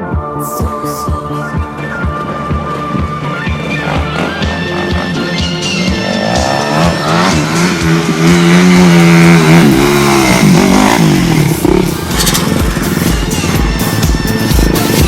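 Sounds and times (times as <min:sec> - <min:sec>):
motocross bike engine revving: 0:01.7 - 0:15.0.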